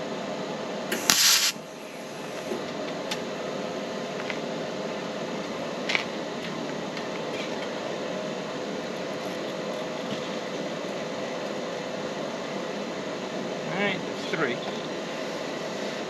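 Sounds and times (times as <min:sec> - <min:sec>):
mechanical fan hum: 0:00.0 - 0:16.0.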